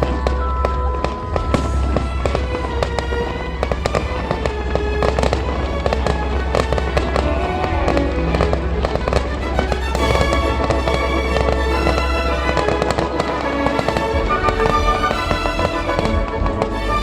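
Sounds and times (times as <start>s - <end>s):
fireworks bangs and crackling: 0.0s - 16.8s
music playing: 0.0s - 17.0s.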